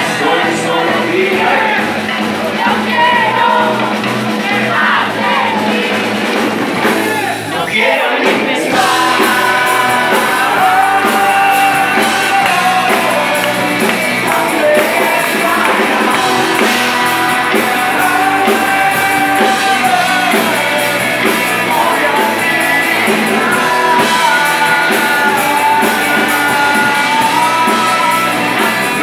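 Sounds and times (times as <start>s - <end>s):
bass guitar: 0.0s - 29.0s
distorted electric guitars: 0.0s - 29.0s
drum kit: 0.0s - 29.0s
male lead singer: 0.0s - 29.0s.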